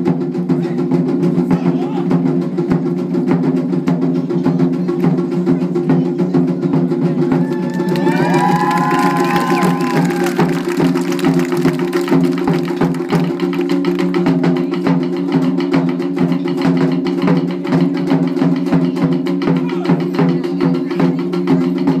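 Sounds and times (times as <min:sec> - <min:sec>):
taiko drums in fast rhythm: 0:00.0 - 0:22.0.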